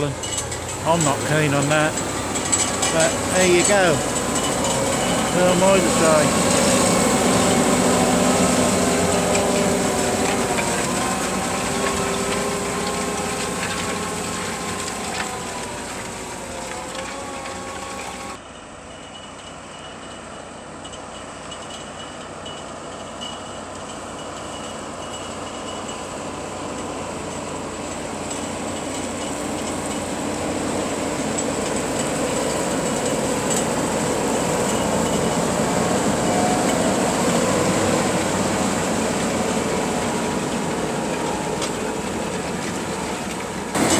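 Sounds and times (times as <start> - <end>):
tractor diesel engine: 0.0 - 18.4, 21.8 - 43.9.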